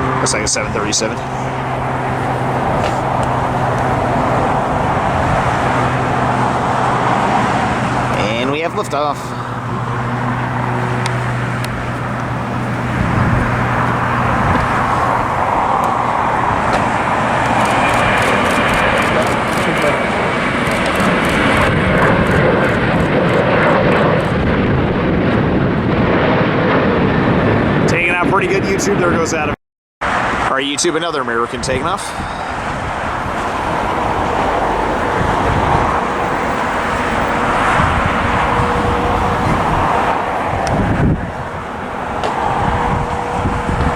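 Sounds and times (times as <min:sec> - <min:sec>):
jet engine roar: 0:00.0 - 0:43.9.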